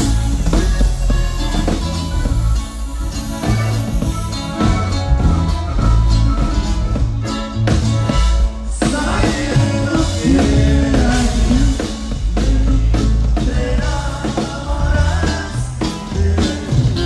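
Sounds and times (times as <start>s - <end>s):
accordion melody: 0.0s - 17.0s
live band dance music: 0.0s - 17.0s.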